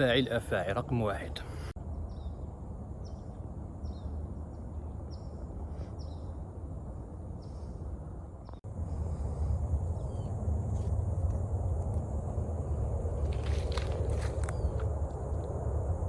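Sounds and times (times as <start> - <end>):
wind rumble on microphone: 1.6 - 16.0.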